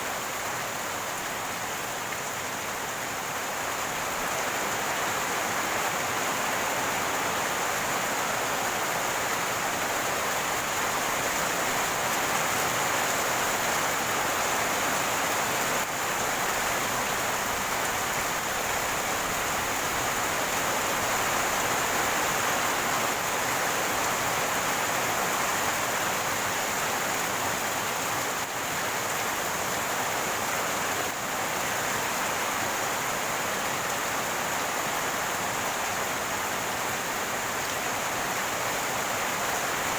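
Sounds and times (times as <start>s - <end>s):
rainwater running and gurgling: 0.0s - 39.9s.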